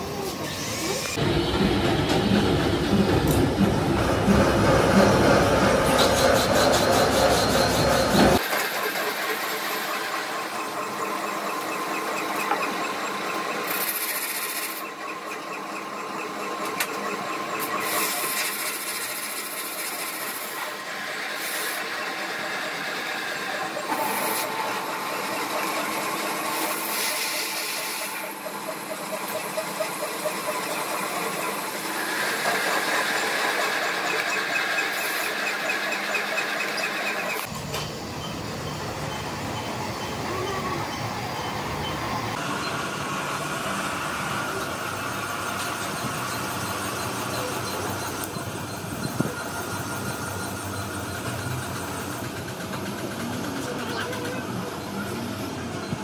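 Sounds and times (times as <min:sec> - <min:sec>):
hissing metal cutting: 0:00.0 - 0:52.3
lathe machine whine: 0:00.0 - 0:56.0.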